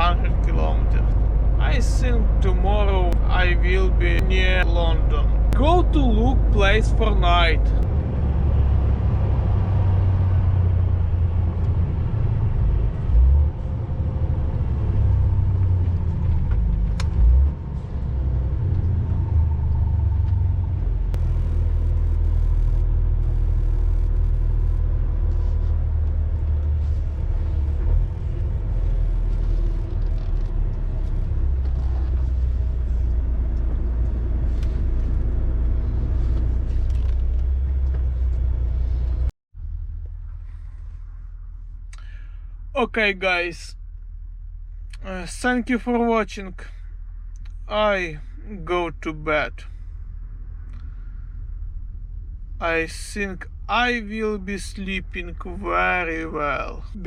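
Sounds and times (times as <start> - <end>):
truck engine and road rumble: 0.0 - 57.0.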